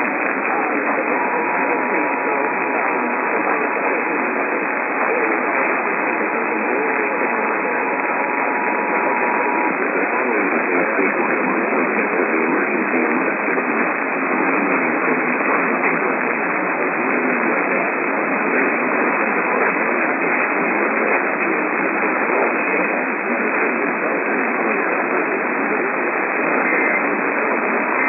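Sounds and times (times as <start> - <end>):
faint speech: 0.0 - 28.0
radio static hiss: 0.0 - 28.0.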